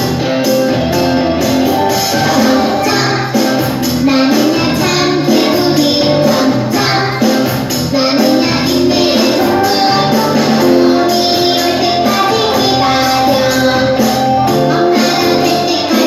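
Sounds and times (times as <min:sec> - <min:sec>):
children's song playing: 0:00.0 - 0:16.0
young children singing together: 0:02.0 - 0:16.0.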